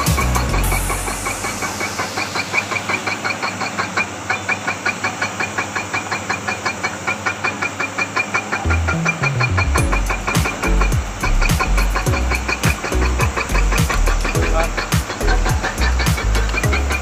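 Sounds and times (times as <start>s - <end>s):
drilling rig running: 0.0s - 17.0s.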